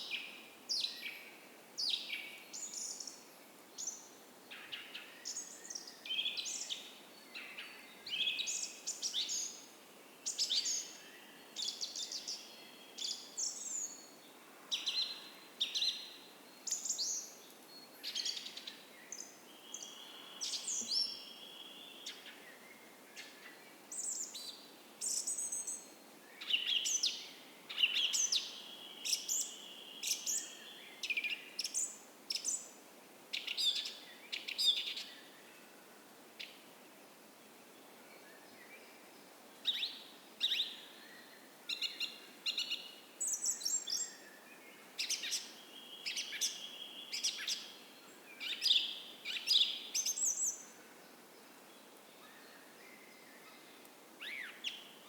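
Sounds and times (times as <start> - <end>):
songbirds singing: 0.0 - 35.6, 38.1 - 55.0
faint background hiss: 0.0 - 55.0.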